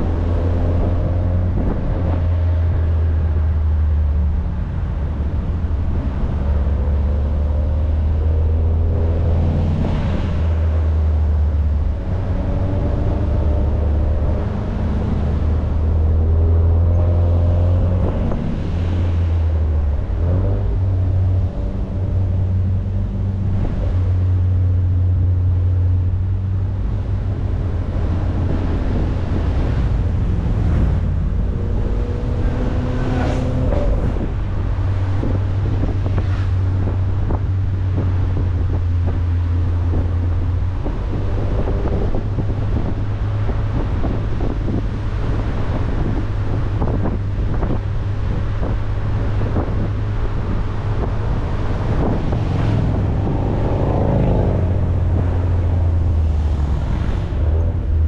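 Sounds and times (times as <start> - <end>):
car engine revving: 0.0 - 58.0
road noise: 0.0 - 58.0
wind buffeting microphone: 0.0 - 58.0.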